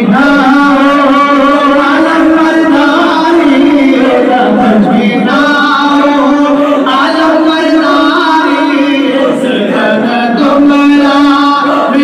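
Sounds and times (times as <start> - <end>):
men singing a chant: 0.0 - 12.0.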